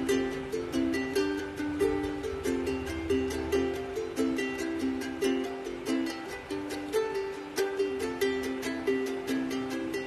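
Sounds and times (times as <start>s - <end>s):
plucked-string tune over a beat: 0.0s - 10.0s.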